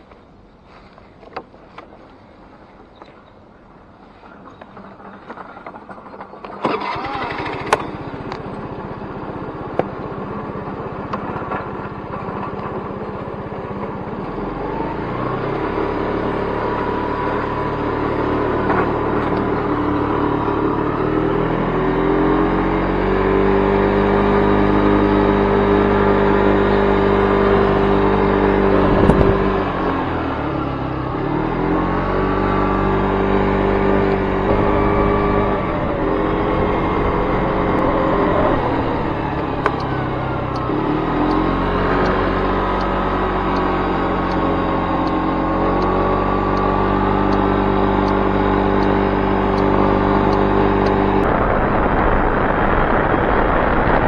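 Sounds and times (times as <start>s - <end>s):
moped engine starting and running: 4.2s - 54.0s.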